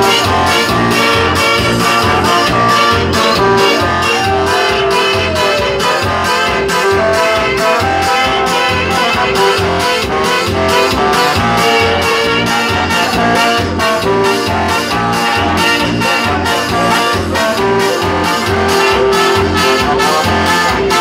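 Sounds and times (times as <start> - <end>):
brass band dance music: 0.0 - 21.0
electronic keyboard: 0.0 - 21.0
steady bass beat: 0.0 - 21.0
trumpet and saxophones: 0.0 - 21.0.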